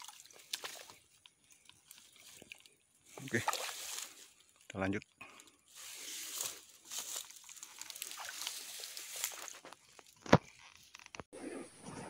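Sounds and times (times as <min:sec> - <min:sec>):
footsteps crunching through dry grass: 0:00.0 - 0:04.6, 0:05.6 - 0:10.8.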